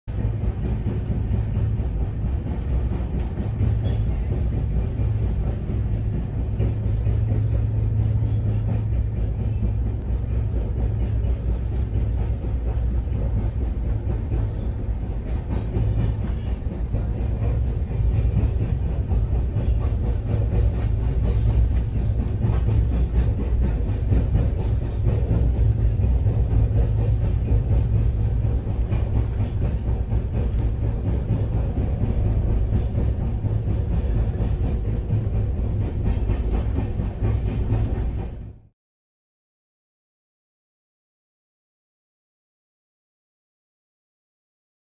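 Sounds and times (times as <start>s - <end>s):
wheels clattering on track: 0.1s - 38.5s
train rumbling on board: 0.1s - 38.7s.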